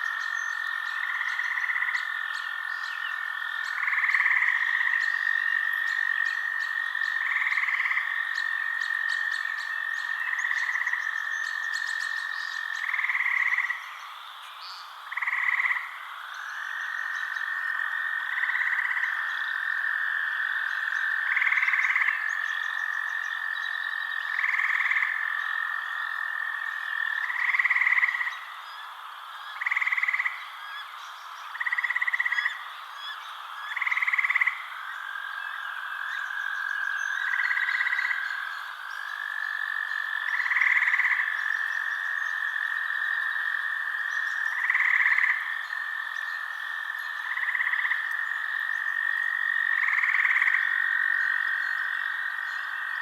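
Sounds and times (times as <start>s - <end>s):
frogs trilling drone: 0.0s - 53.0s.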